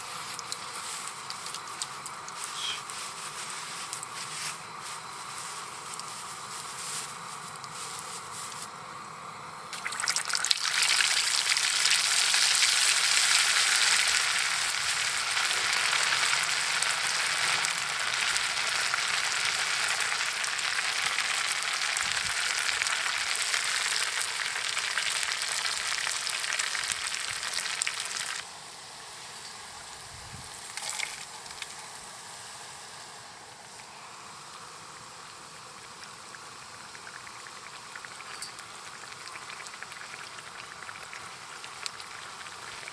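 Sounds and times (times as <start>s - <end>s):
faint hiss: 0.0s - 42.9s
food sizzling in a pan: 0.0s - 42.9s.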